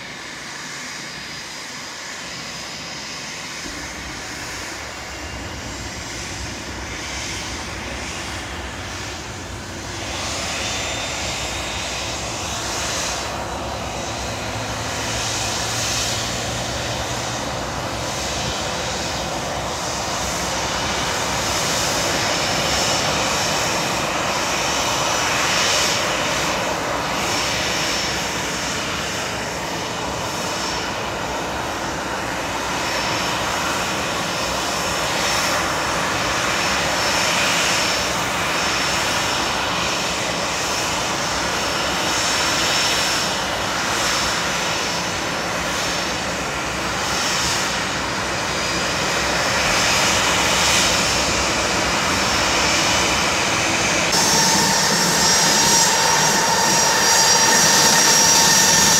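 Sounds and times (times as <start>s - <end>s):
jet engines idling: 0.0s - 58.9s.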